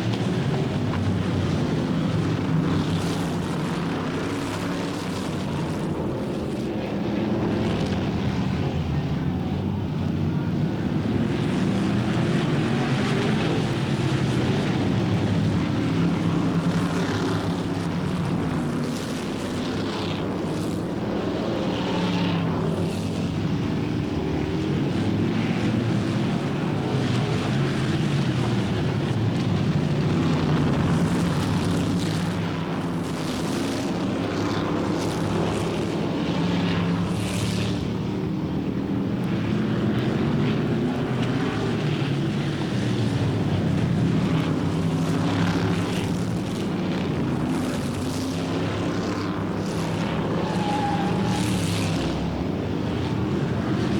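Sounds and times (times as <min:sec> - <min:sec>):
racing car engines: 0:00.0 - 0:53.9.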